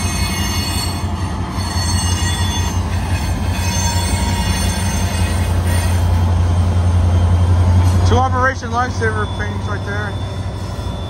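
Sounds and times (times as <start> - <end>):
diesel locomotive engine drone: 0.0 - 11.0
train wheels rolling on rail: 0.0 - 11.0.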